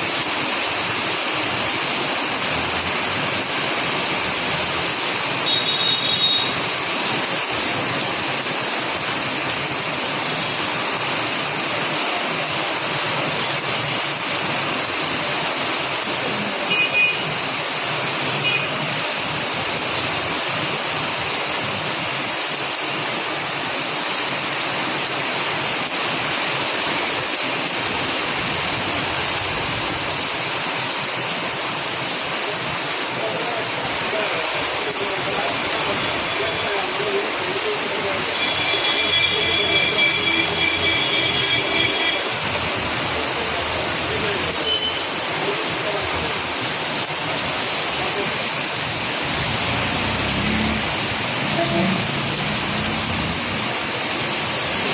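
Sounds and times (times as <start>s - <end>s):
heavy rain downpour: 0.0s - 54.9s.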